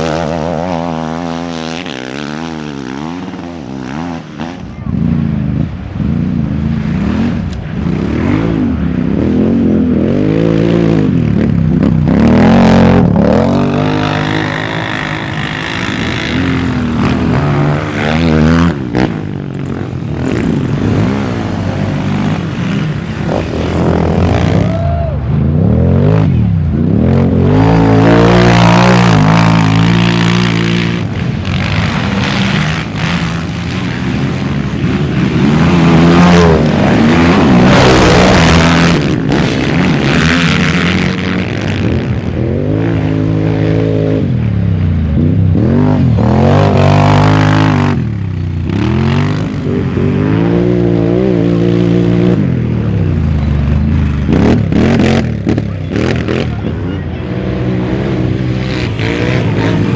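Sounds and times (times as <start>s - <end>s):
quad engines revving past: 0.0s - 59.9s.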